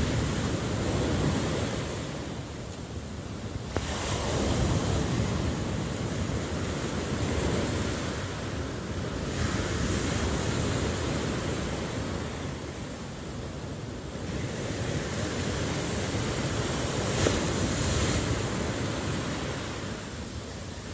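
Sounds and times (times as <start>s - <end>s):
ocean waves breaking on shore: 0.0s - 20.9s.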